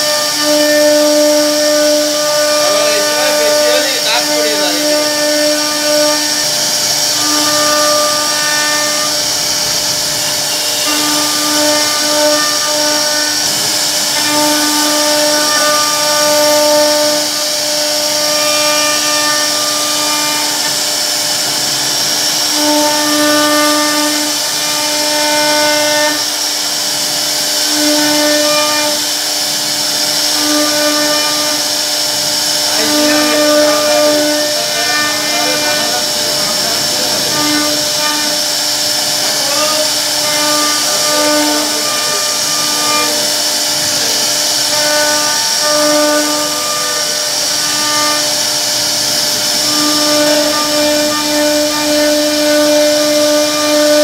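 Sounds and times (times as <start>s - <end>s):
router spindle high whine: 0.0s - 54.0s.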